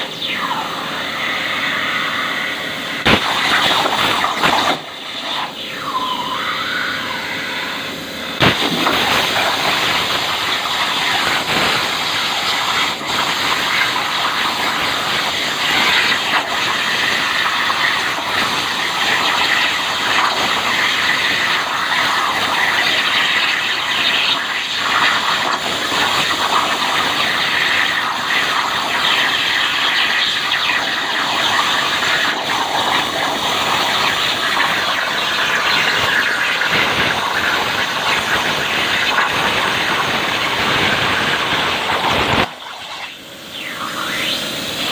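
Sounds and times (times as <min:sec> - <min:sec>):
plasma cutter hissing screech: 0:00.0 - 0:44.9.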